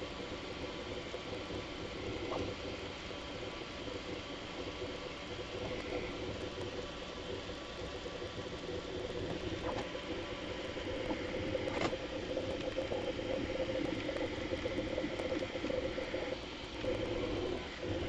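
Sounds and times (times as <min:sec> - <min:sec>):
printer motors whirring: 0:00.0 - 0:18.0.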